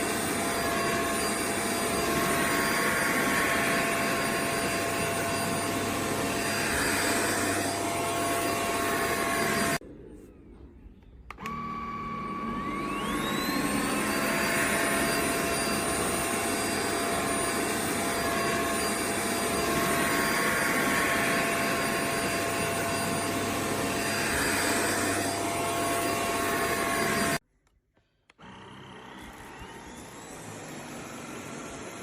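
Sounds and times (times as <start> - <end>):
vacuum cleaner suction with motor whine: 0.0 - 9.8, 11.3 - 27.4, 28.3 - 32.0.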